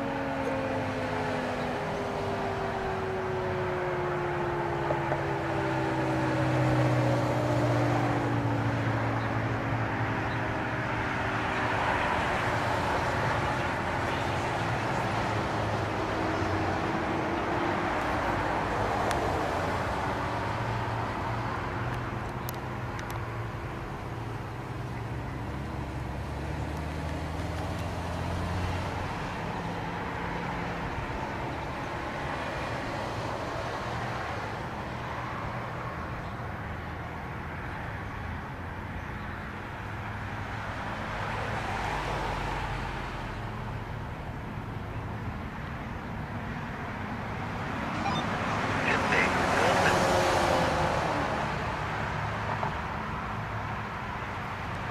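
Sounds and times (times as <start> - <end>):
distant rotating tornado siren: 0.0 - 38.9, 41.3 - 51.6.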